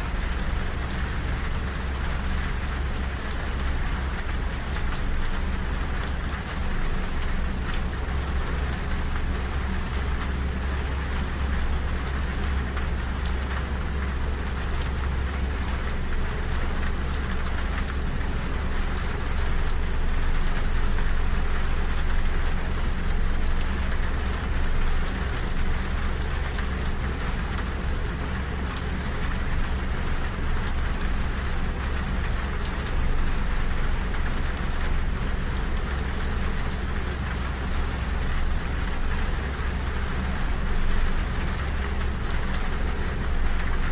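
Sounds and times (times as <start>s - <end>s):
rain on train window: 0.0s - 43.9s.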